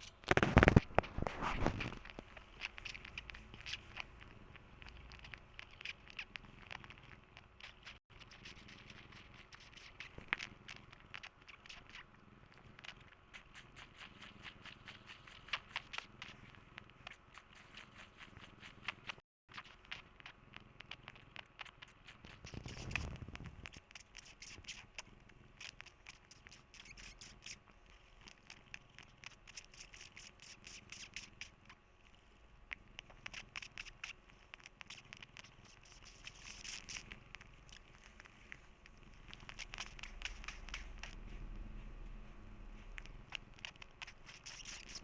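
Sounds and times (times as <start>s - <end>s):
small clicks and rustles: 0.0s - 41.6s, 42.7s - 45.0s
cat purring softly: 0.0s - 45.0s.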